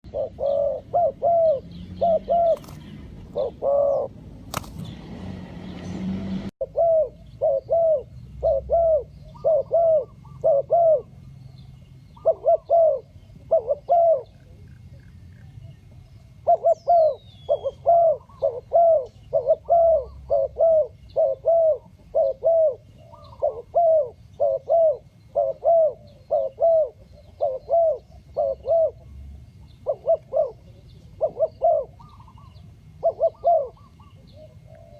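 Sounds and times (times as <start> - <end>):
dove cooing: 0.0 - 4.3, 6.6 - 34.9.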